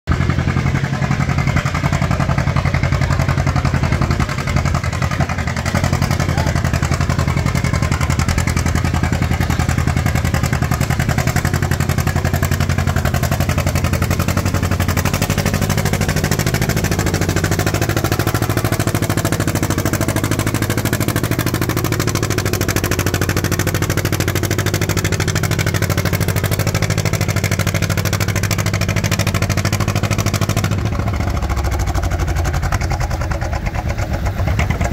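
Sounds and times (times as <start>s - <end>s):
tractor engine under load: 0.0s - 34.9s.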